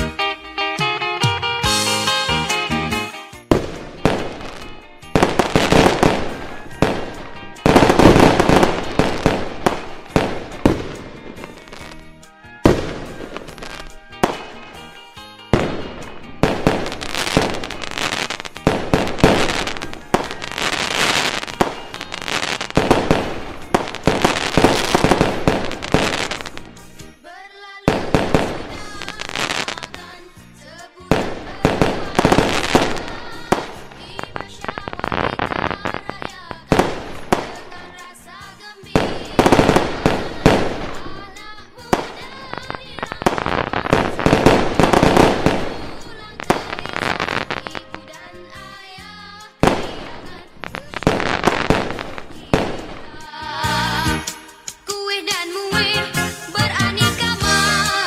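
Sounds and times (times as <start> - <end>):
fireworks bangs: 3.4 - 26.8, 27.9 - 30.2, 31.1 - 38.1, 39.0 - 48.3, 49.6 - 54.3.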